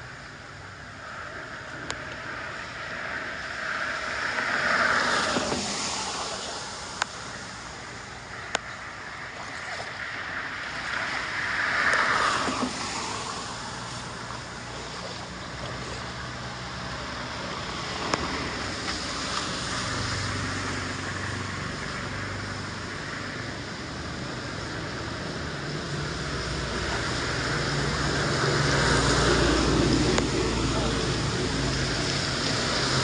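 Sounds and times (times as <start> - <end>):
water rushing into drain: 1.0 - 33.0.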